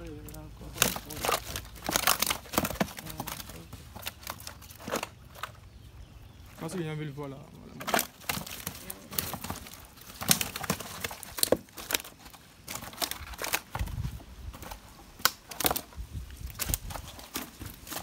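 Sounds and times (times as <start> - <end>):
fish flapping in plastic basin: 0.0 - 5.6, 7.8 - 18.0.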